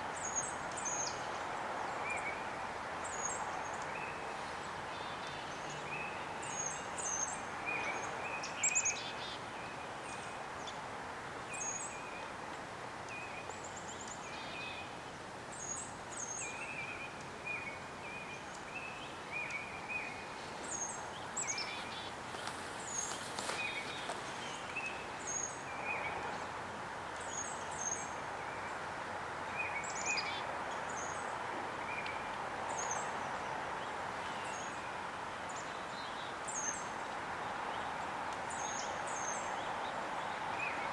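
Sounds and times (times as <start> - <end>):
small songbirds chirping: 0.0 - 40.9.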